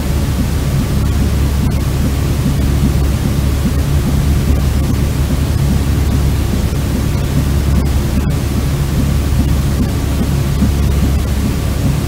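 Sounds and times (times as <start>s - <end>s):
white noise hiss: 0.0s - 12.0s.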